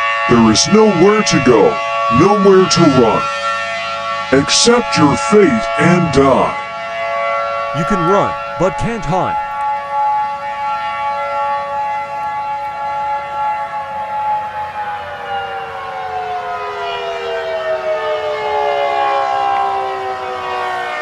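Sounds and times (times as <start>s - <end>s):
civil defense siren: 0.0s - 21.0s.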